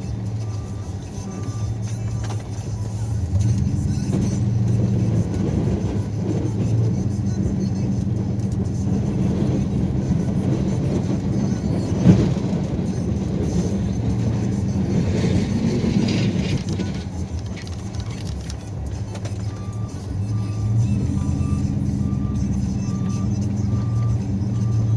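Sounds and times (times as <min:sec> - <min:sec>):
truck engine running: 0:00.0 - 0:24.9.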